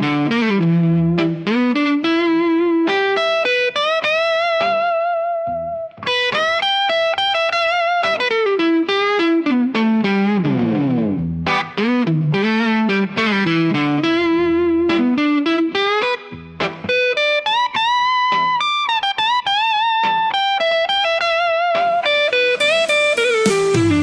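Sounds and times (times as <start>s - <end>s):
slow blues electric guitar: 0.0s - 24.0s.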